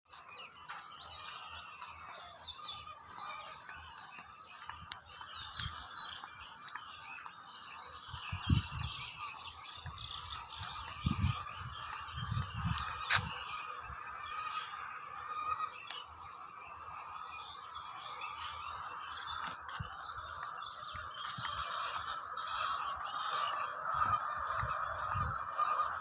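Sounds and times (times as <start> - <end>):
birds chirping and calling: 0.1 - 26.0.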